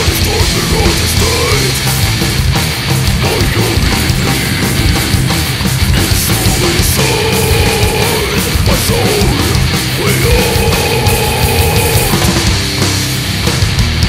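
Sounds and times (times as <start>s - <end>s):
death metal band playing: 0.0s - 14.0s.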